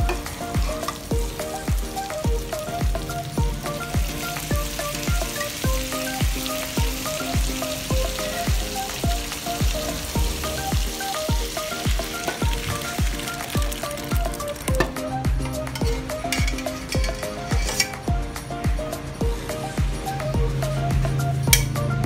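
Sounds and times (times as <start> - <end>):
food sizzling in a wok: 0.0 - 18.1
background music with beat: 0.0 - 22.0.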